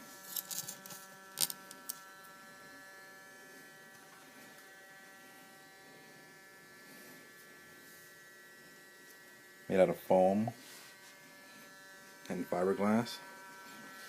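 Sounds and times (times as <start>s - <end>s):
gyro electric whine: 0.0s - 14.0s.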